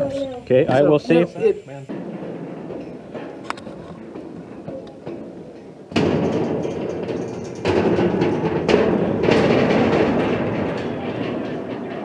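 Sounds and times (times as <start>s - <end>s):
footsteps clanging on steel: 1.9s - 12.0s
metal knocks and rattles: 1.9s - 12.0s.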